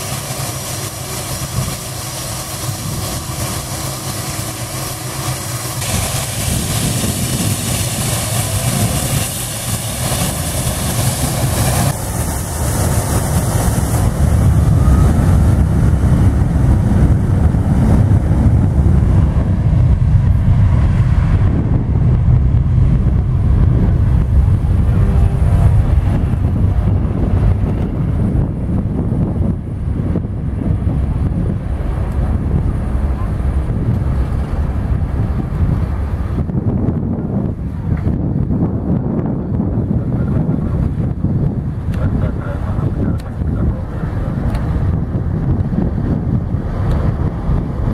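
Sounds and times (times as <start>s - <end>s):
jet engines at takeoff thrust: 0.0s - 47.9s.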